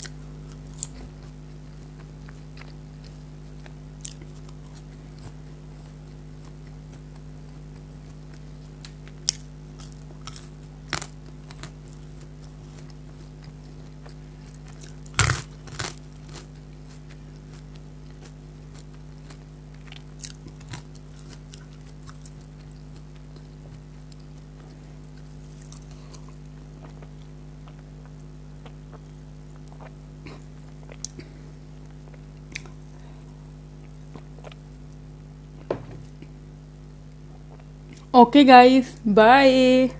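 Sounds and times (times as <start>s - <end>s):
person chewing and biting: 0.0s - 36.3s, 37.3s - 38.1s
steady low hum: 0.0s - 39.9s.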